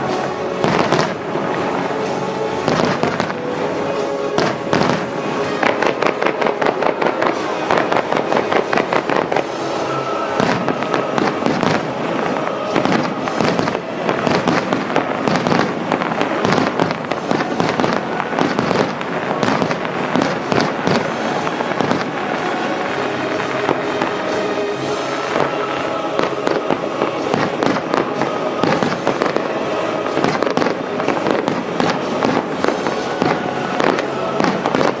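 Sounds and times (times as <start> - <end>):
fireworks bursting and crackling: 0.0 - 35.0
music playing: 0.0 - 35.0.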